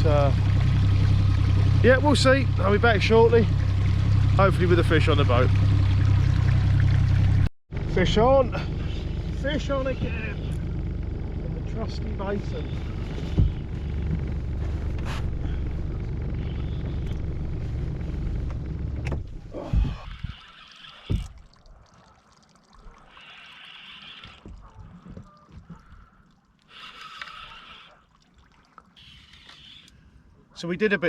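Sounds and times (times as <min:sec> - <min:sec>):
water trickling and lapping: 0:00.0 - 0:07.5, 0:12.3 - 0:30.6
boat motor running: 0:00.0 - 0:22.2, 0:22.8 - 0:28.1.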